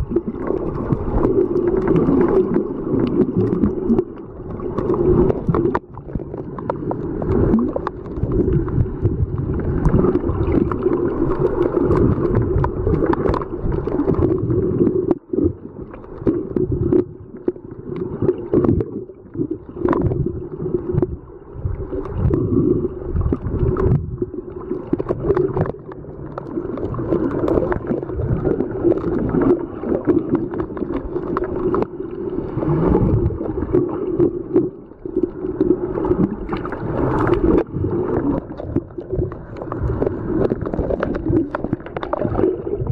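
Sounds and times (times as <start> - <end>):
underwater churning water: 0.0 - 42.9.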